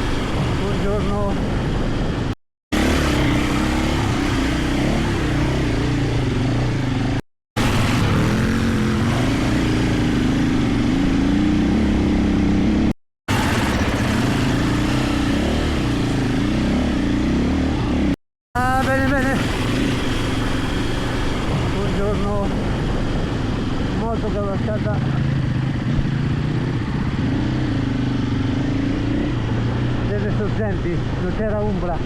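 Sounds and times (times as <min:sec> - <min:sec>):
motorcycle engines running: 0:00.0 - 0:32.0.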